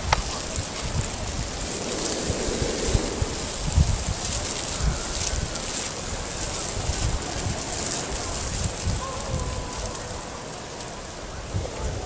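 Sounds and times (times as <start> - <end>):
high-pitched crackling hiss: 0.0 - 12.0
wind on microphone: 0.0 - 12.0.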